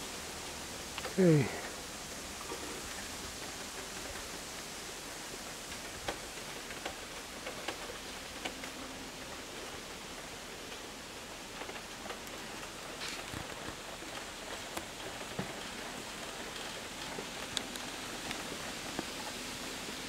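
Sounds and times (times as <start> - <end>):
bamboo leaves rustling in wind: 0.0 - 20.0
bamboo trunks clicking and creaking: 0.0 - 20.0.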